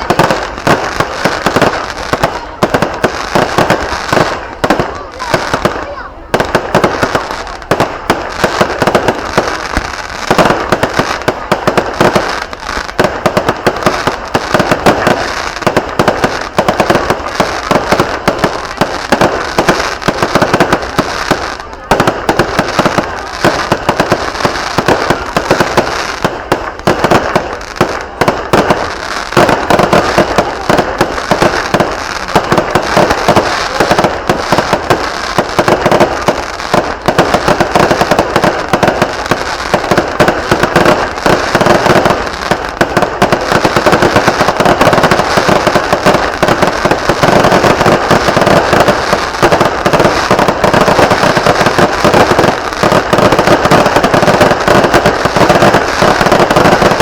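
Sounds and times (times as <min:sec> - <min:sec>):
firecrackers bangs and crackles: 0:00.0 - 0:57.0.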